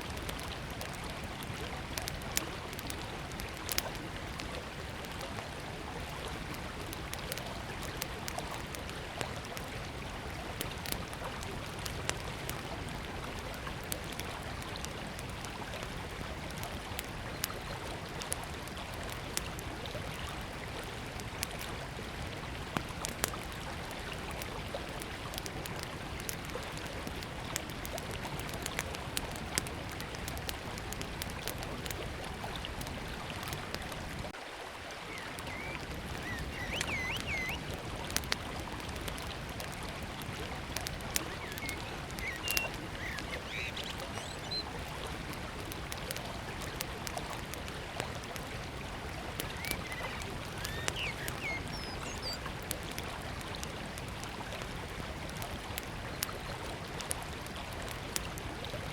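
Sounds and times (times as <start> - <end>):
river flowing: 0.0 - 58.8
wood fire crackling: 0.0 - 58.8.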